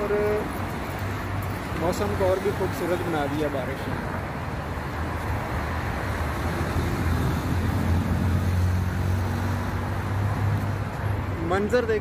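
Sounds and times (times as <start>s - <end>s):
traffic on a wet road: 0.0s - 12.0s
vehicle passing: 0.0s - 12.0s.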